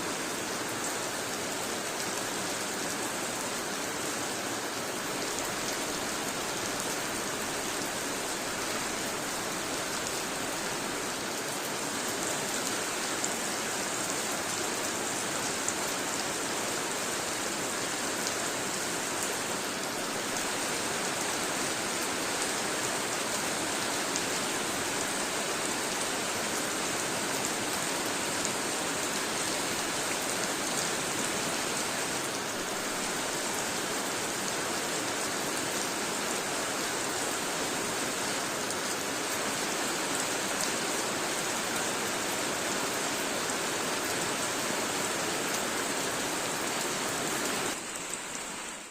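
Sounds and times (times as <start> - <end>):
steady rain pattering: 0.0 - 48.9.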